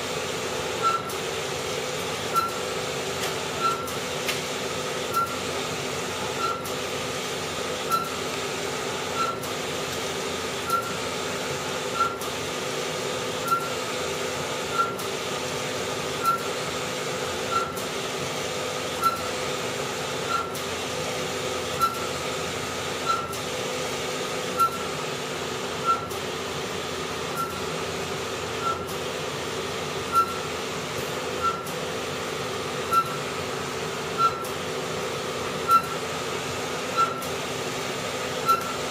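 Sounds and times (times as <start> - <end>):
printer motor hum: 0.0 - 38.9.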